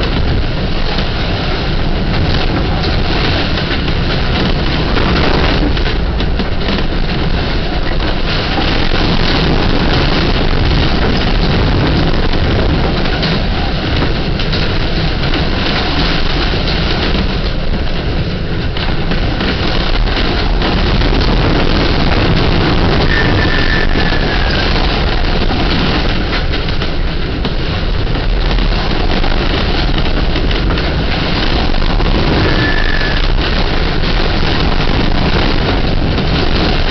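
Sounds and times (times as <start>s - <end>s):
knocks and rattles: 0.0s - 36.9s
strong wind blowing: 0.0s - 36.9s.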